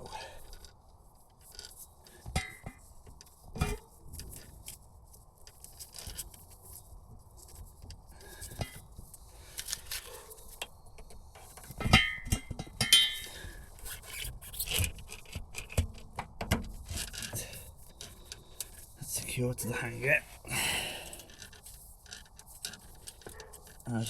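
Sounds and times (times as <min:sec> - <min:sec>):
cable scraping and metal clinking: 0:00.0 - 0:24.0.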